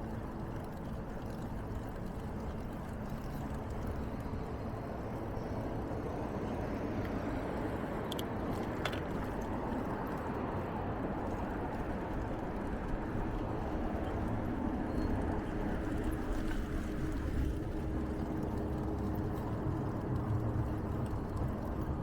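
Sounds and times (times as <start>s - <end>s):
bicycle tyre rumble: 0.0s - 22.0s.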